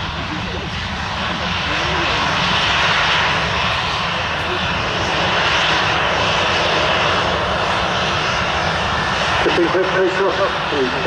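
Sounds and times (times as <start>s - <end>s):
jet airliner engines running: 0.0s - 11.0s.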